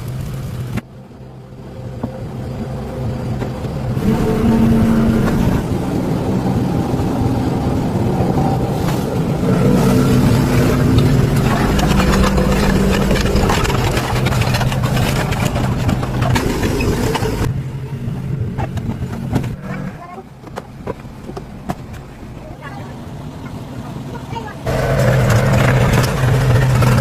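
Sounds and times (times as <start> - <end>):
engine humming and clattering: 0.0 - 27.0.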